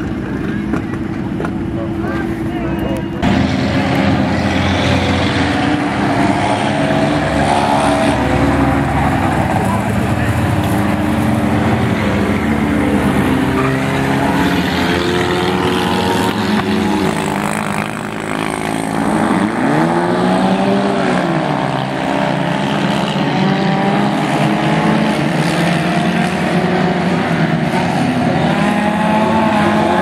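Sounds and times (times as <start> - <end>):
race car engines: 0.0 - 30.0.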